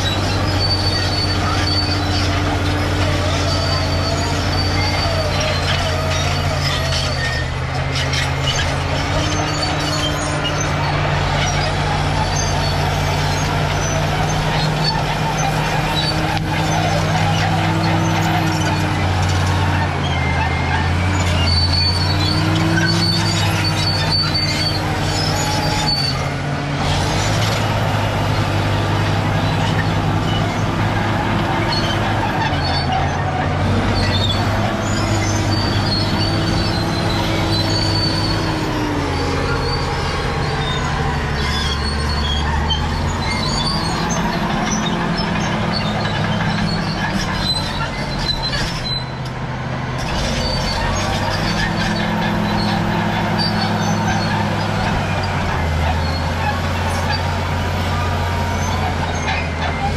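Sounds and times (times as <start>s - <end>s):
bulldozer diesel engine under load: 0.0s - 59.9s
high-pitched track squeaks: 0.0s - 59.9s.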